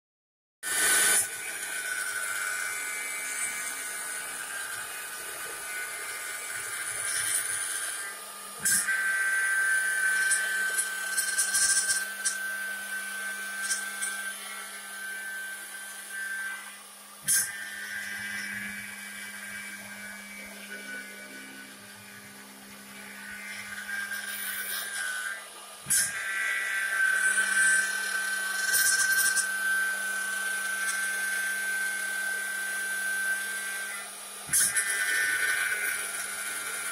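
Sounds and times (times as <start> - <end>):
wood cutting noise: 0.6 - 36.9
lathe motor whine: 0.7 - 36.9.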